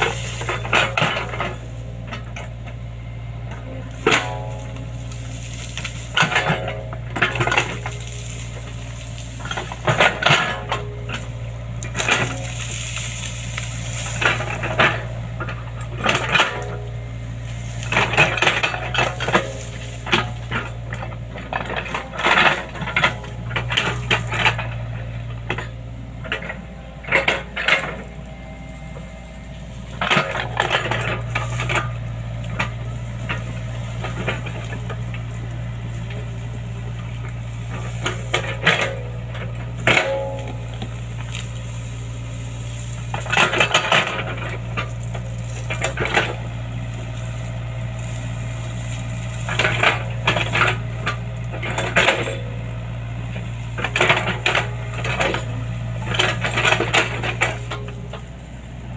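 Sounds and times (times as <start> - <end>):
metallic clanks and rattles: 0.0 - 28.1, 28.9 - 58.8
excavator engine running: 0.0 - 58.9.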